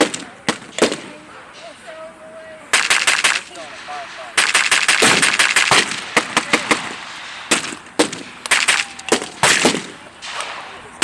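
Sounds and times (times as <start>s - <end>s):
rifle and machine-gun fire: 0.0s - 1.2s, 2.7s - 11.0s.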